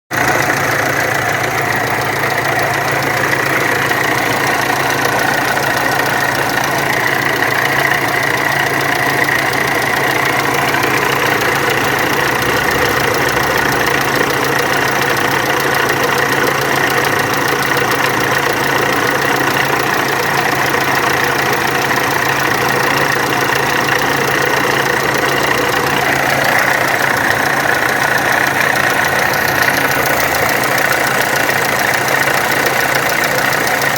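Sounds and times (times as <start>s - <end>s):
abnormal mechanical engine noise: 0.1s - 33.9s
diesel engine idling: 0.1s - 33.9s.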